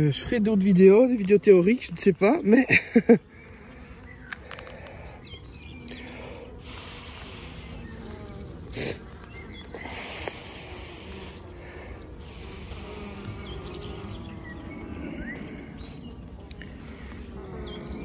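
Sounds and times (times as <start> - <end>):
honeybees humming: 0.0 - 18.0.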